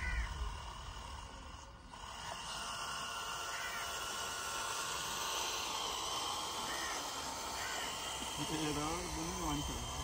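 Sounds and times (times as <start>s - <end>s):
small drive motor running: 0.0s - 10.0s.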